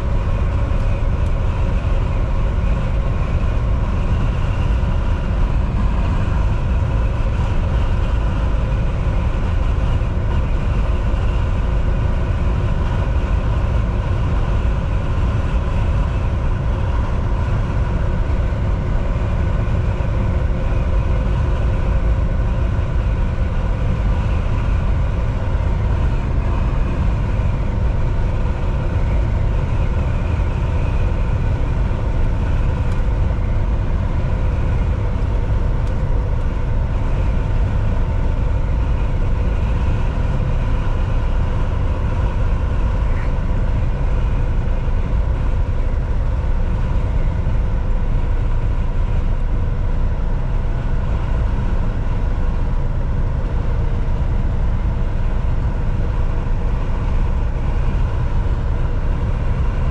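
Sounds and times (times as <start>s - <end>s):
low road rumble: 0.0s - 59.9s
truck engine drone: 0.0s - 59.9s.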